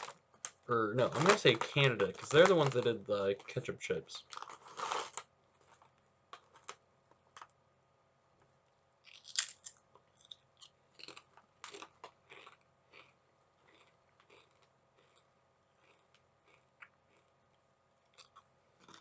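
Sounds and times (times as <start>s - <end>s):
crunchy chewing of crisps: 0.0s - 7.6s, 9.0s - 19.0s.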